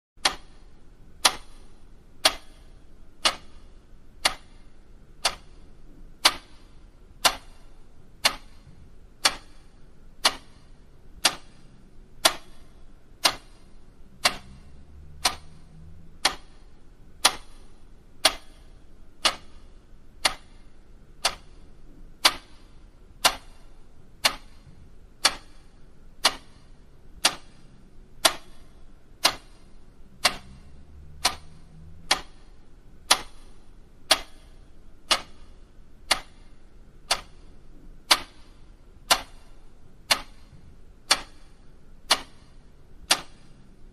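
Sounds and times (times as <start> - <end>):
clock ticking: 0.2 - 43.9.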